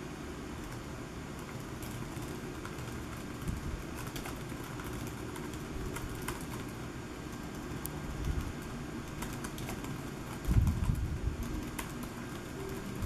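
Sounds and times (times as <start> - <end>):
keyboard typing clicks: 1.4 - 6.8, 7.4 - 13.0.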